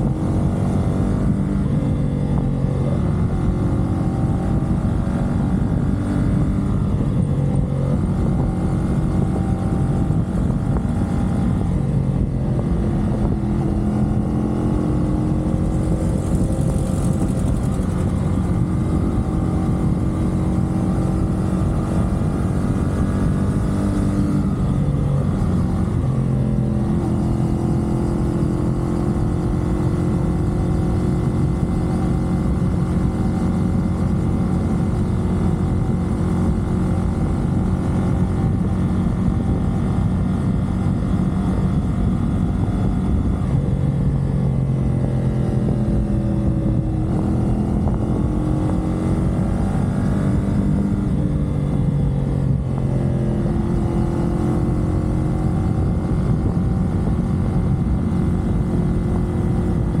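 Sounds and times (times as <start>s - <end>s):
motorcycle engine running: 0.0s - 60.0s
wind and road noise: 0.0s - 60.0s.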